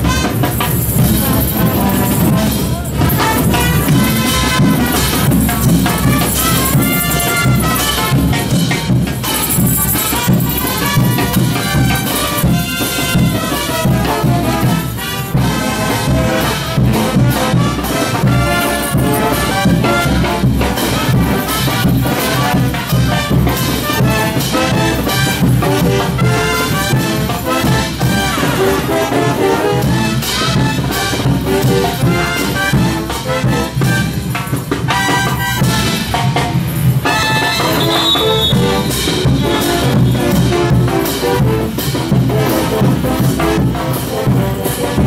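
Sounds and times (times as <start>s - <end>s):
brass band with drums playing: 0.0s - 45.0s.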